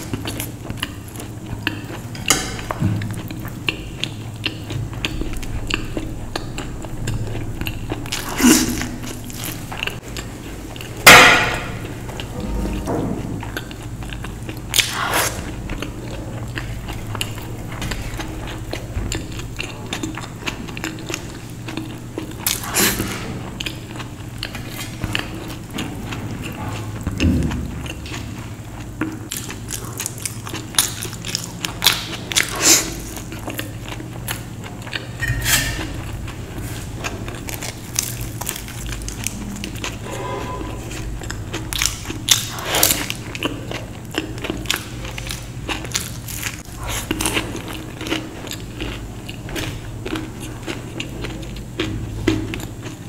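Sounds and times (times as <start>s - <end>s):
low hum: 0.0s - 32.4s, 33.0s - 47.8s
person chewing crisp food: 0.0s - 53.0s.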